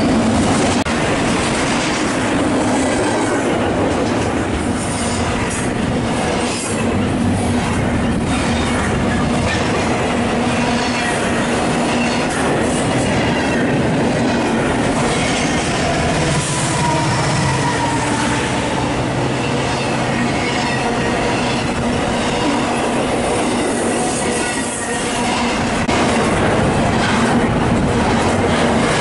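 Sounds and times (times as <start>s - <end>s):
freight train passing: 0.0s - 29.0s.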